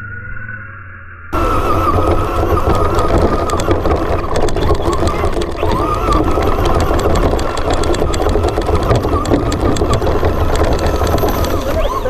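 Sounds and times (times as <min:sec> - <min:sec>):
electric motor and gear whine: 0:01.3 - 0:12.0
chassis clicks and knocks: 0:01.4 - 0:12.0.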